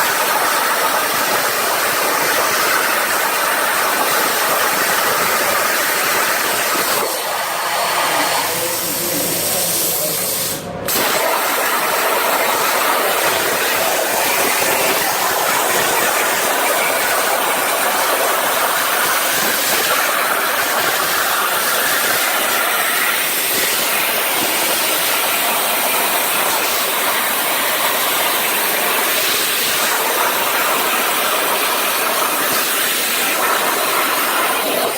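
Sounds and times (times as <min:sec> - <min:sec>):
machine hissing loudly: 0:00.0 - 0:34.9.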